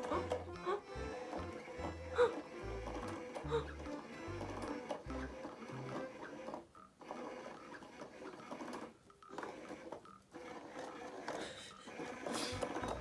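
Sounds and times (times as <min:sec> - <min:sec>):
motorised toy whirring and rattling: 0:00.0 - 0:13.0.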